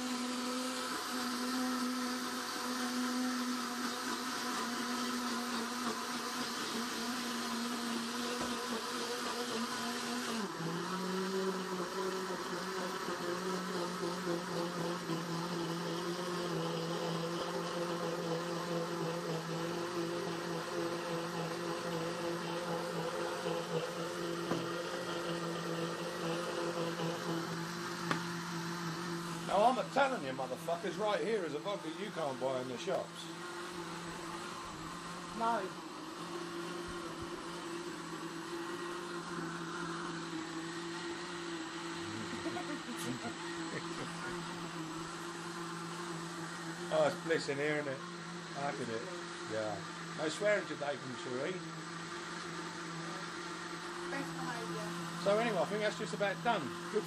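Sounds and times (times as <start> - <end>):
blender motor running: 0.0 - 57.0.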